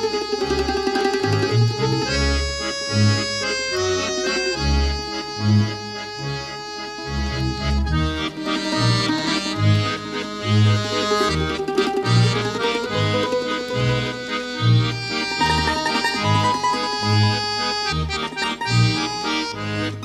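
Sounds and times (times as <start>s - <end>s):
instrumental music with held chords: 0.0s - 20.0s
bass line: 0.1s - 20.0s.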